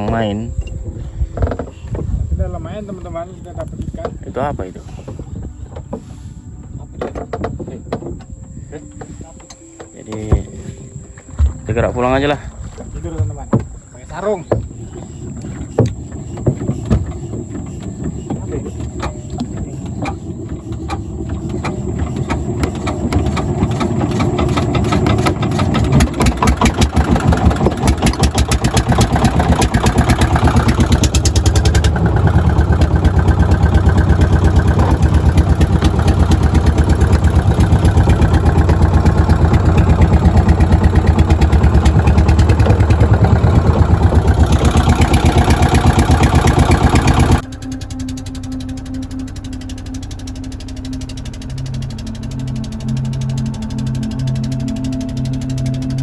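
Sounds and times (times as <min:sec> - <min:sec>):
small engine running: 0:08.6 - 0:56.0.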